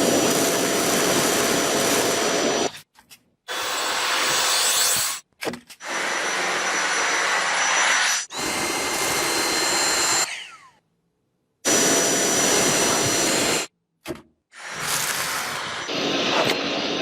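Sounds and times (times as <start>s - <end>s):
vacuum cleaner whine: 0.0s - 2.8s, 3.5s - 5.2s, 5.8s - 10.7s, 11.7s - 13.7s, 14.6s - 17.0s.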